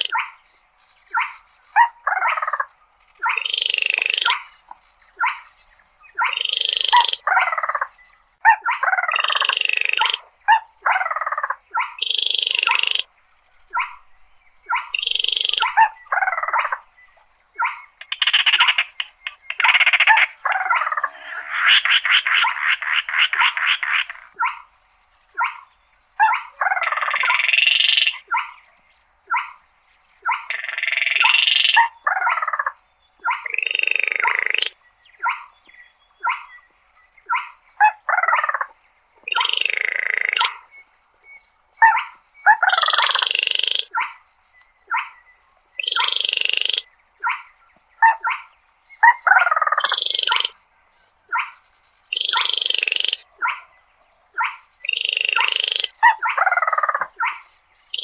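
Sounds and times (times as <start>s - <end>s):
crake calling: 1.1s - 28.7s, 30.2s - 36.6s, 37.2s - 40.9s, 41.8s - 44.2s, 45.8s - 50.6s, 51.3s - 58.0s.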